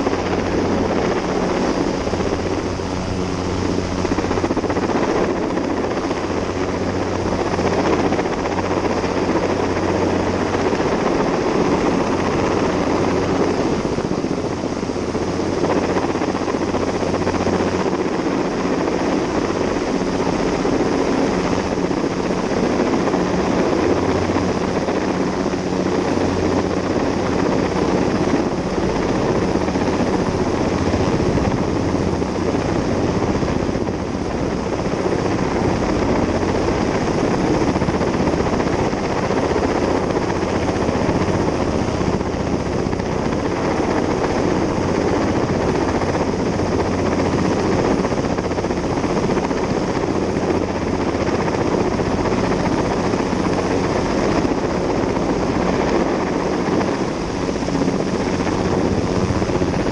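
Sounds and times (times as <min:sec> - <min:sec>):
helicopter rotor and engines running: 0:00.0 - 0:59.9.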